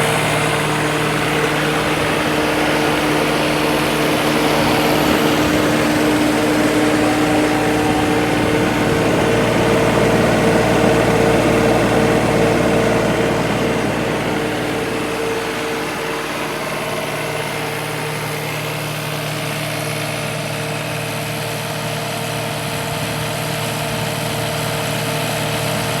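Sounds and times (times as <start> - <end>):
skid steer engine running: 0.0 - 26.0.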